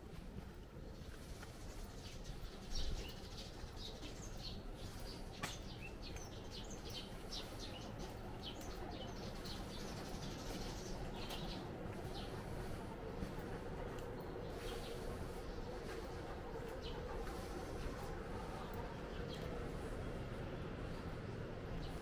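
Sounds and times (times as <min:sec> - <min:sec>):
small birds chirping: 0:00.8 - 0:22.0.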